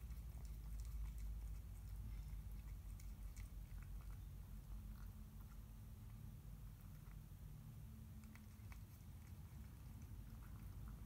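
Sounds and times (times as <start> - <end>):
cat chewing wet food: 0.0 - 11.0
steady low hum: 0.0 - 11.0.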